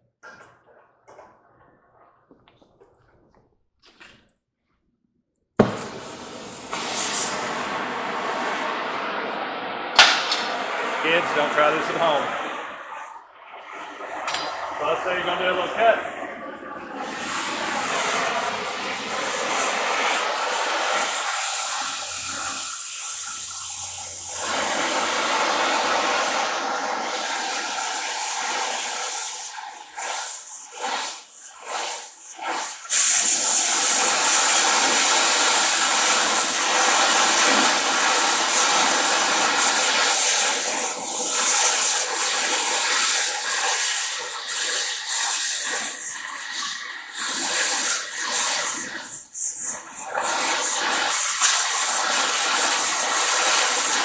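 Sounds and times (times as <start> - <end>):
cutting torch flame hissing: 5.6 - 54.0.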